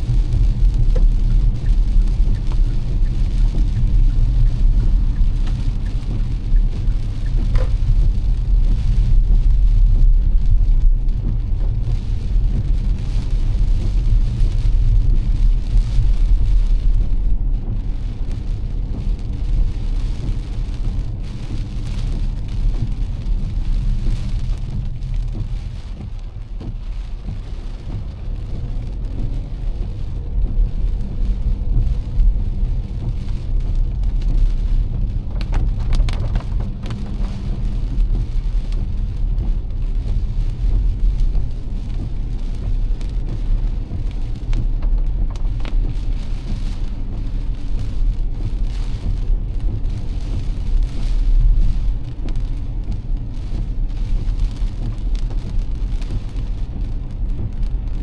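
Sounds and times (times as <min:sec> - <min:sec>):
heavy rain on a car: 0:00.0 - 0:58.0.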